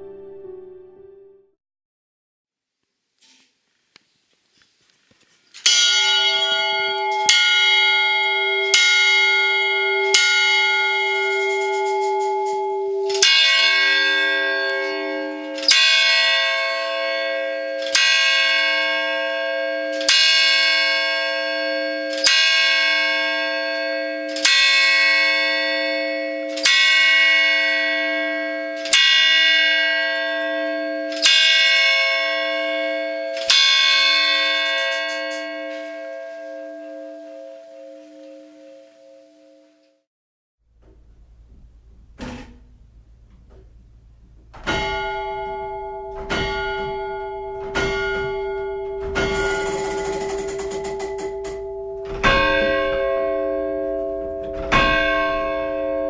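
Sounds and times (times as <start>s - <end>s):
deep clock bell striking: 5.6s - 39.8s, 40.8s - 56.0s
higher clock bell striking: 5.6s - 39.8s, 43.1s - 56.0s.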